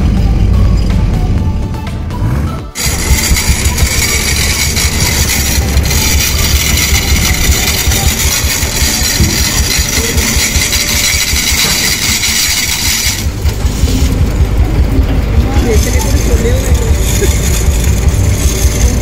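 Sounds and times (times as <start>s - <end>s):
large engine idling: 2.8s - 19.0s.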